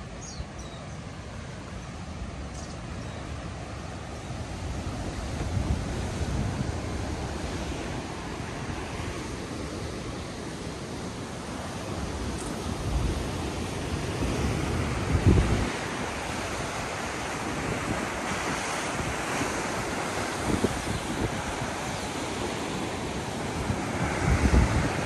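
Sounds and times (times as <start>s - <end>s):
wind buffeting microphone: 4.3s - 25.0s.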